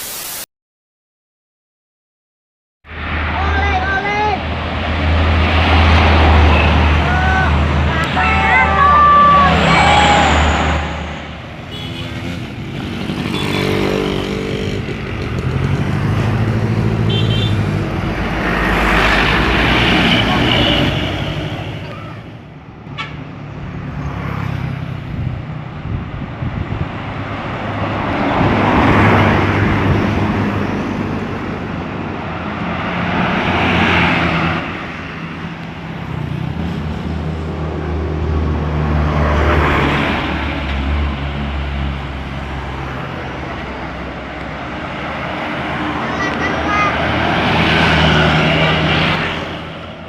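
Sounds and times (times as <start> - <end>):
low engine hum of traffic: 2.8 - 50.0
vehicles sweeping past: 2.9 - 50.0.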